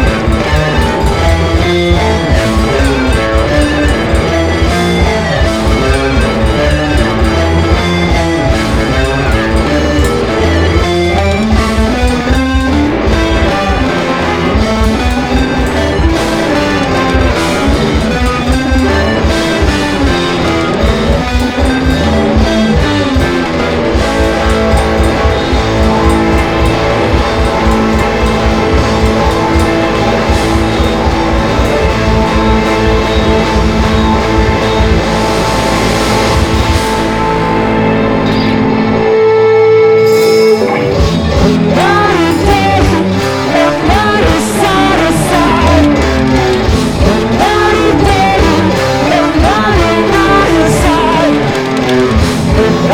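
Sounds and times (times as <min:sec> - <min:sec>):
drums and cymbals: 0:00.0 - 0:38.5, 0:40.0 - 0:52.9
bass line: 0:00.0 - 0:52.9
electric guitar: 0:00.0 - 0:52.9
instrumental rock band playing: 0:00.0 - 0:52.9.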